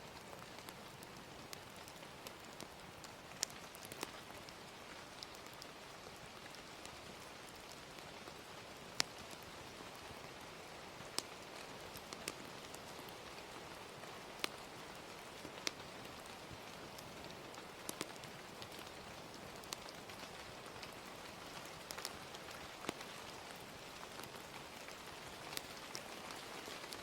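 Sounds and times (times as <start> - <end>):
gentle rain hiss: 0.0 - 27.0
fire popping: 0.1 - 27.0.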